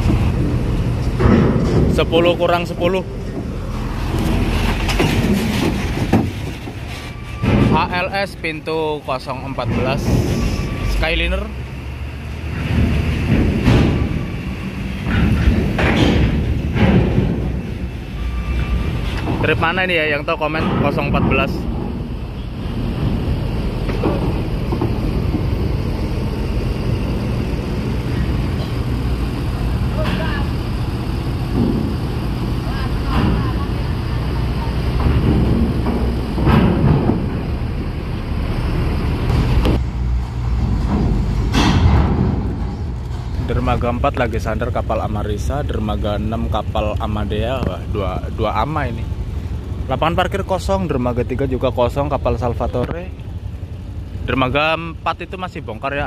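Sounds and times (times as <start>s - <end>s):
clunks on steel ramp: 0.0s - 8.5s, 12.3s - 50.0s
bus diesel engine rumbling: 0.0s - 56.0s.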